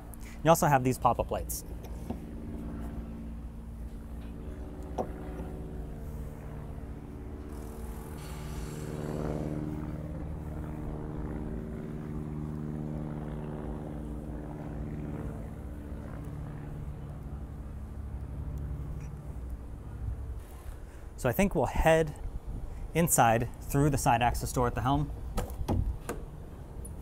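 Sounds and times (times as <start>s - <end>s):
engine-like drone: 0.0s - 27.0s.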